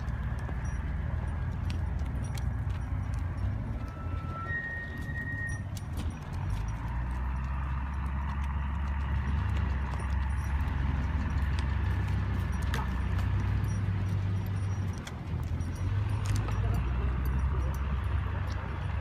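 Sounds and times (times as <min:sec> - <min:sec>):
horse hooves on dirt: 0:00.0 - 0:19.0.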